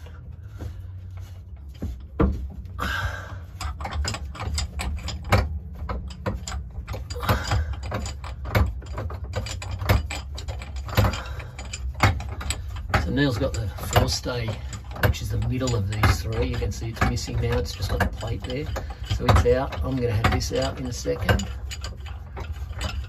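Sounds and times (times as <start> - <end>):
metallic clicking and rattling: 0.0 - 23.0.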